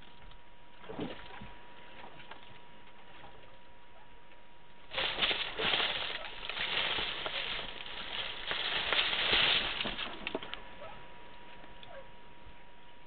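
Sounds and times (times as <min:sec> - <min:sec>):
crackle tunnel rustling and crackling: 0:00.0 - 0:12.0.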